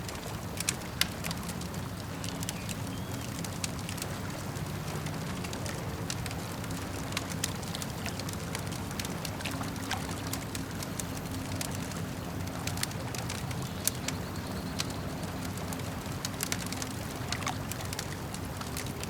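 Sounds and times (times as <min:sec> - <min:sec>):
campfire crackling and popping: 0:00.0 - 0:19.0
lake water lapping: 0:00.0 - 0:19.0.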